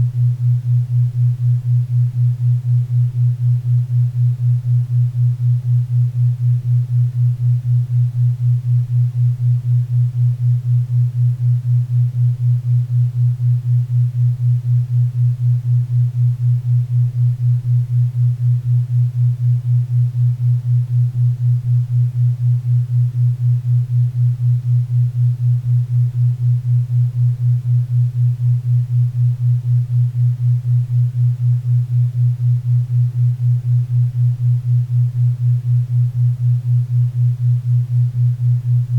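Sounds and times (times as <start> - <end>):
pulsing low hum tone: 0.0 - 38.9.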